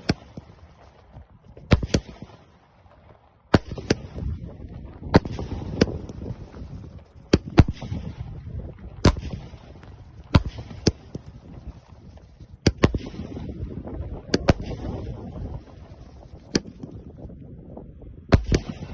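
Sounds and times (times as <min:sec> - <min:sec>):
fireworks bangs: 0:00.0 - 0:17.0
fireworks rumble and crackle: 0:00.0 - 0:18.9.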